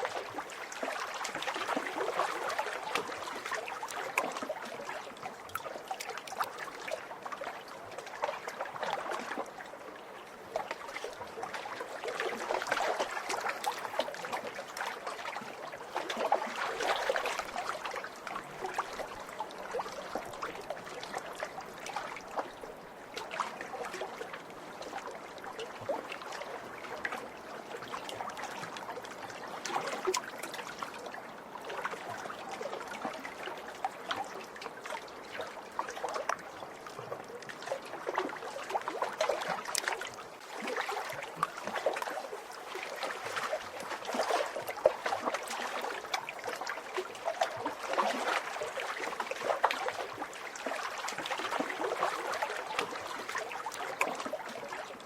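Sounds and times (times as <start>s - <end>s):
small waves lapping at shore: 0.0s - 55.0s.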